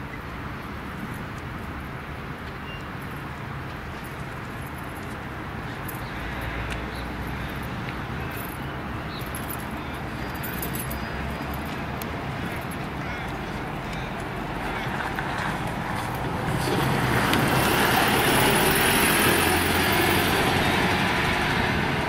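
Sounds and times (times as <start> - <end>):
road noise: 0.0 - 22.0
bus engine drone: 3.8 - 22.0.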